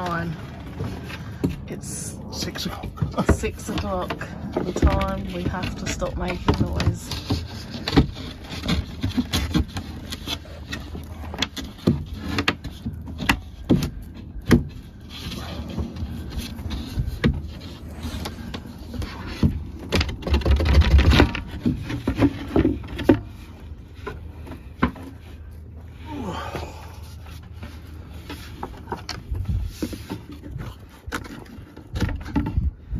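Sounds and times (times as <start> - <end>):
wood and tools knocking: 2.6 - 25.6, 27.3 - 32.9.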